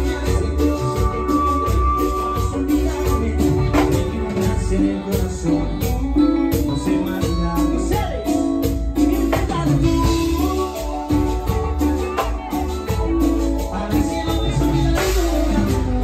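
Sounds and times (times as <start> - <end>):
latin dance band playing: 0.0 - 16.0
man singing: 0.0 - 16.0.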